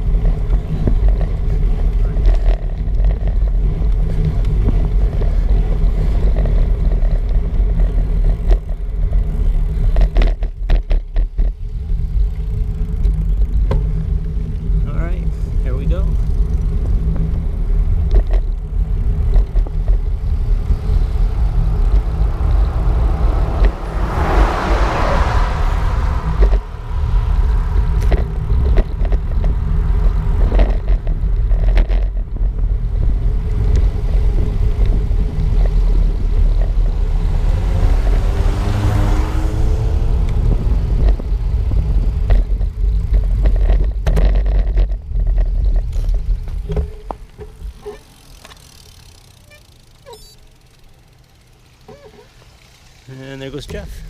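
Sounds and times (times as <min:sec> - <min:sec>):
bicycle clicks and rattles: 0:00.0 - 0:24.6, 0:25.2 - 0:54.0
wind rumble on microphone: 0:00.0 - 0:48.0
motor vehicles passing: 0:00.0 - 0:54.0.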